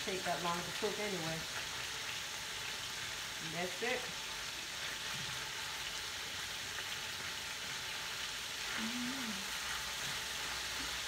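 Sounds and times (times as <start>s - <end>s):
shrimp sizzling in hot oil: 0.0s - 11.0s
tongs turning food in pan: 0.0s - 11.0s.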